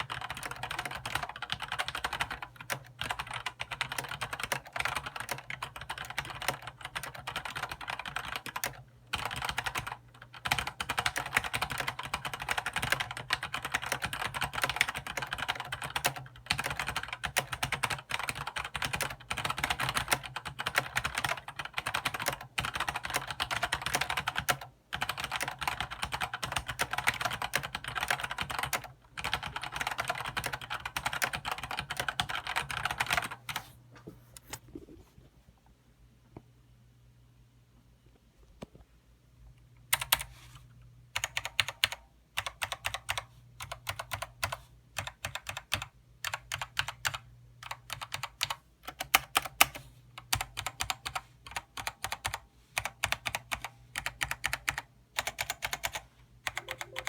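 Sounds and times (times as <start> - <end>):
mechanical keyboard typing: 0.0 - 33.6, 39.9 - 40.3, 41.2 - 57.0.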